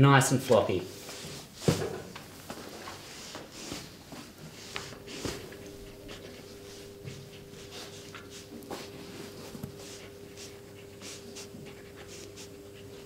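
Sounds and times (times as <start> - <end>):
leg rustling on bedsheet: 1.0 - 12.5
faint steady hum: 2.1 - 13.0.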